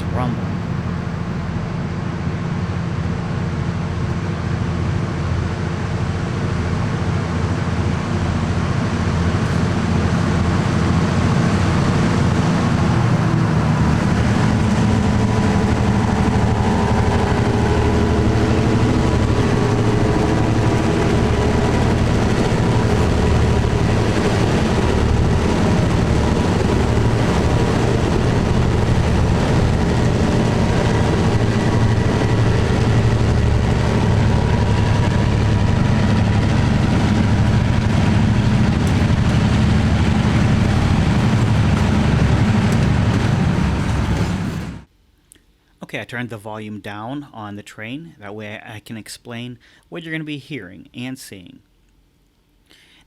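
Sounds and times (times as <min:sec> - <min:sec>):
diesel locomotives rumbling: 0:00.0 - 0:44.9.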